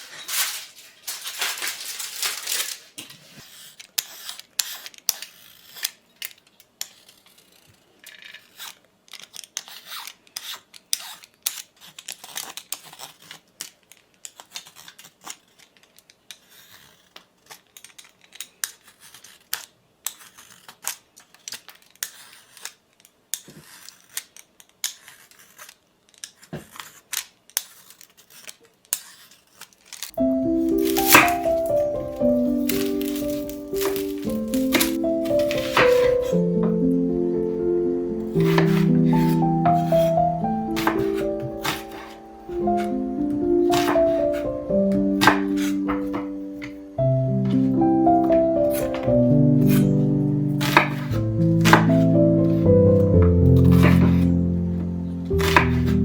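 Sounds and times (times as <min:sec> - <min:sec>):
rustling tearing noise: 0:00.0 - 0:36.4, 0:38.2 - 0:56.0.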